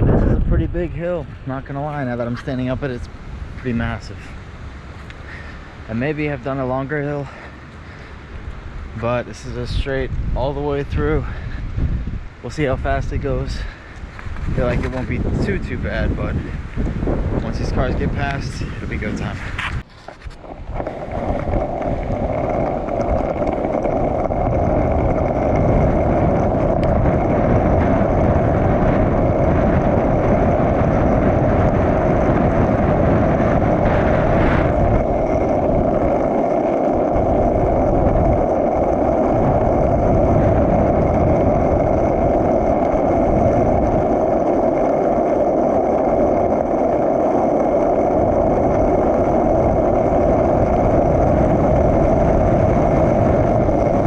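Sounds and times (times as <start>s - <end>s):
skateboard wheels rolling on concrete: 0.0s - 54.0s
wind buffeting microphone: 0.0s - 54.0s.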